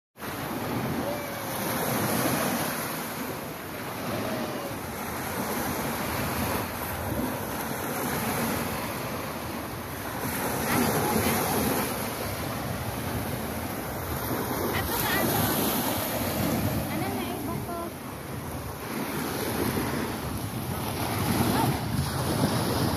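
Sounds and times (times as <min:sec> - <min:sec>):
waves lapping on shore: 0:00.2 - 0:22.9
wind on microphone: 0:04.0 - 0:22.9.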